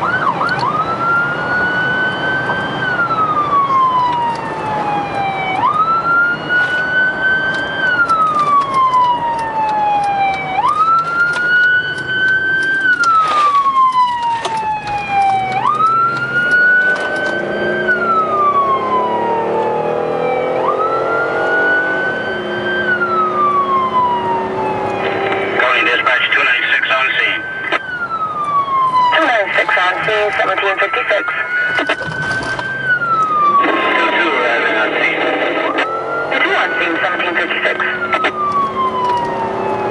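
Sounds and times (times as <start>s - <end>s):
emergency siren wailing: 0.0s - 39.9s.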